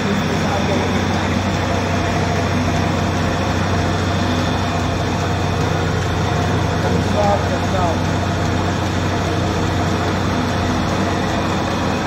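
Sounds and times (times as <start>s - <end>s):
flour mill grinding grain: 0.5s - 12.0s.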